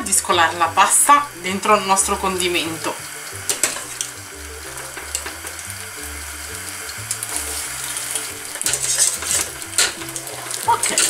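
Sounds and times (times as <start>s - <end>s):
background music with bass line: 0.0s - 11.0s
light sizzle: 0.0s - 11.0s
water dripping and splashing: 0.1s - 11.0s.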